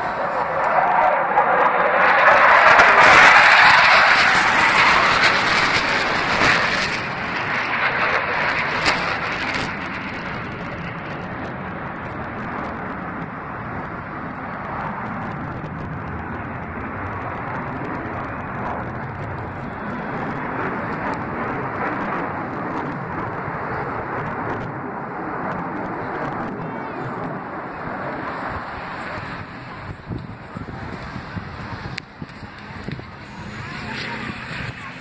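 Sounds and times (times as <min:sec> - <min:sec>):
jet engines flying past: 0:00.0 - 0:35.0.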